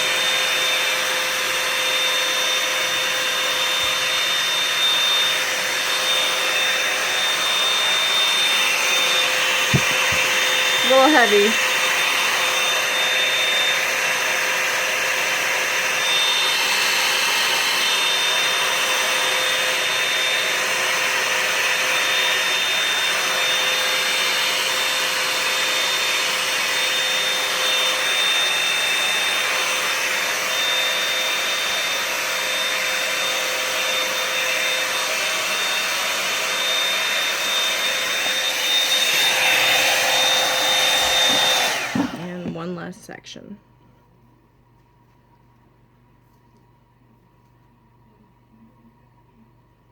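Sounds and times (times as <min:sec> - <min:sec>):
hot-air brush running: 0:00.0 - 0:42.9.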